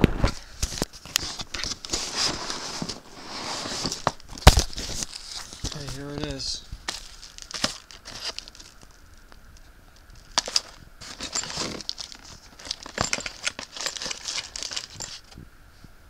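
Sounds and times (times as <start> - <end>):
packaging rustling and crinkling: 0.2 - 9.4, 10.0 - 15.4.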